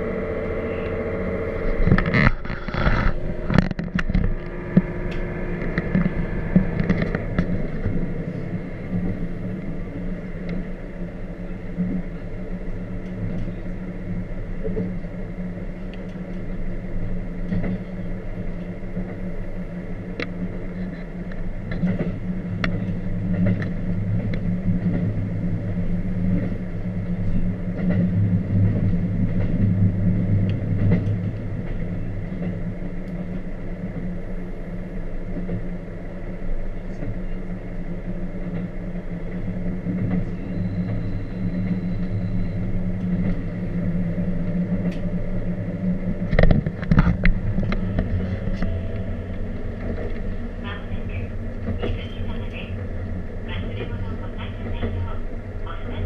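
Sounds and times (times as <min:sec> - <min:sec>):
train interior hum: 0:00.0 - 0:56.0
train wheels rumbling on rails: 0:00.0 - 0:56.0.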